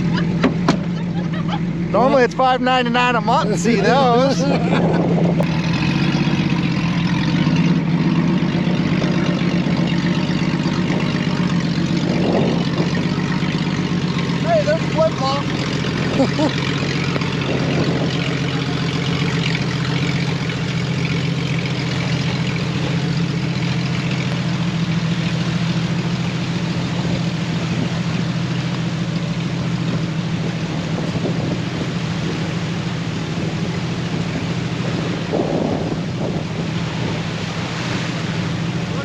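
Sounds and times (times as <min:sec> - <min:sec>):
car engine running at low revs: 0:00.0 - 0:39.0.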